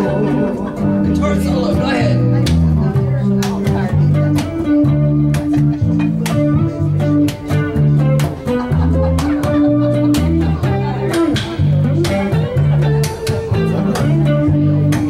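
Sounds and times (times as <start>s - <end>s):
electric bass guitar: 0.0s - 15.0s
plucked string melody: 0.0s - 15.0s.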